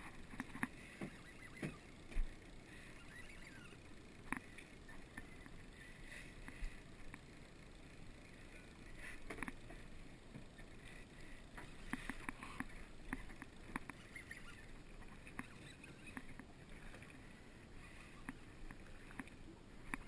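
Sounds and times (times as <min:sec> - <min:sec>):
water lapping against hull: 0:00.0 - 0:07.4, 0:08.2 - 0:20.0
small ticks and clicks: 0:00.0 - 0:20.0.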